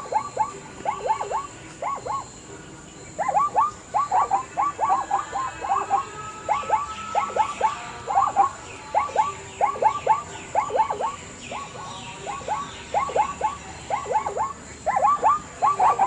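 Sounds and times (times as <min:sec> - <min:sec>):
zebra yelping barks: 0:00.0 - 0:16.0.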